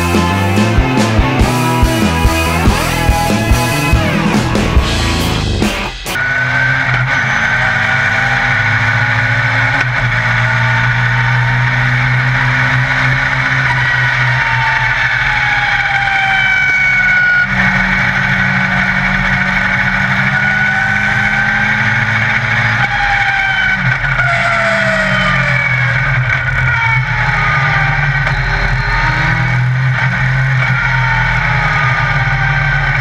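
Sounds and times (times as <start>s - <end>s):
racing car engine revving: 0.0s - 33.0s.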